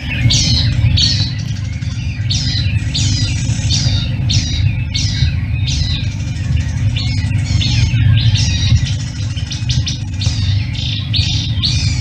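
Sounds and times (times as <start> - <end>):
bird calling with falling notes: 0.0 - 12.0
steady low rumble: 0.0 - 12.0.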